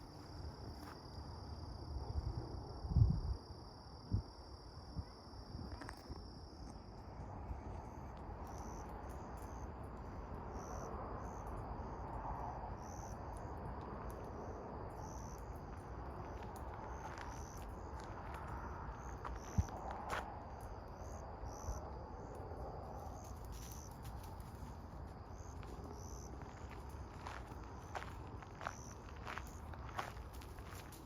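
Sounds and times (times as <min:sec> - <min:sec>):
insects chirping: 0:00.0 - 0:31.0
outdoor background noise: 0:00.0 - 0:31.0.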